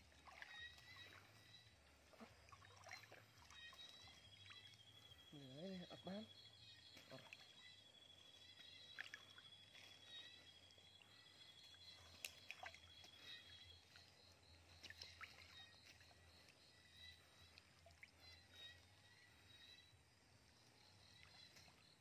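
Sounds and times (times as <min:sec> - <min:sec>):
water sloshing and splashes: 0:00.0 - 0:05.3, 0:05.9 - 0:22.0.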